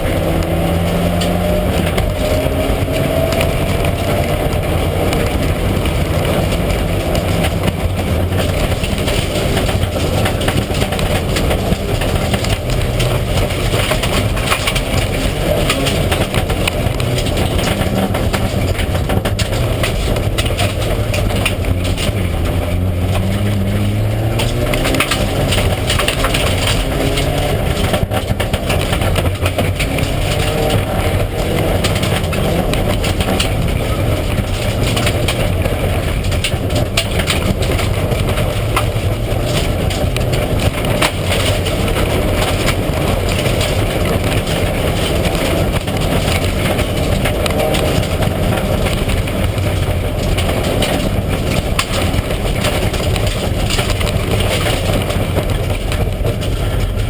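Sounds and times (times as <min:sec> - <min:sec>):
gravel striking car underbody: 0:00.0 - 0:57.0
rally car engine revving: 0:00.0 - 0:57.0.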